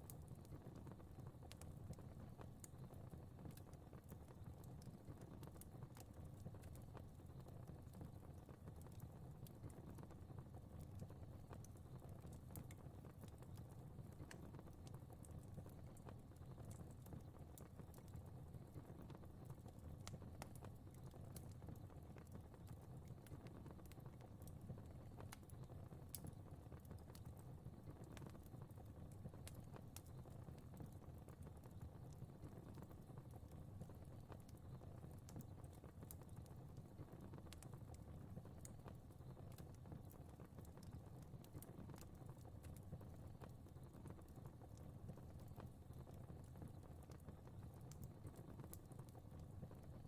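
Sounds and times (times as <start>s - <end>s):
fireplace fire crackling: 0.0s - 50.0s.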